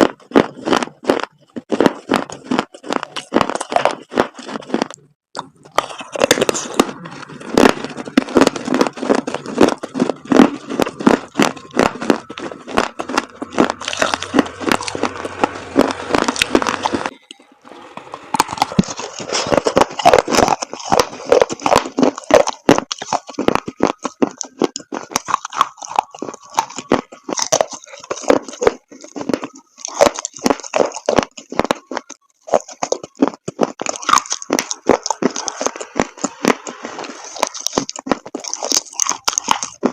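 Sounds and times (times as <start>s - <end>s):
chalk paste crunching: 0.0s - 17.1s, 17.8s - 39.9s.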